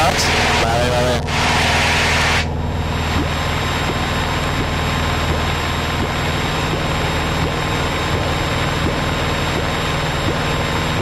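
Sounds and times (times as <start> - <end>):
plane engine and propeller droning: 0.0 - 11.0.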